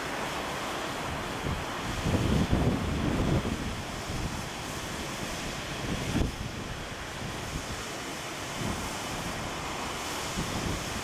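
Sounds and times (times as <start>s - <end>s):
wind blowing on microphone: 1.1s - 11.0s.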